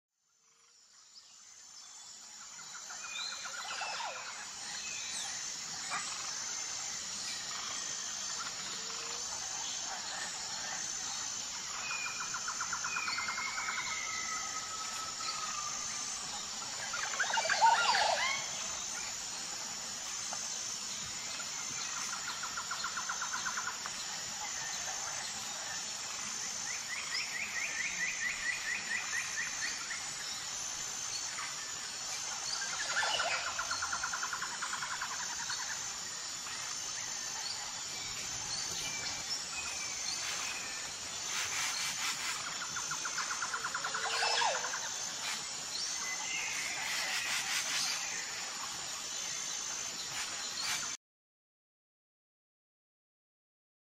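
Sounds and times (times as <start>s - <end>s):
wild birds singing and calling: 0.5s - 51.0s.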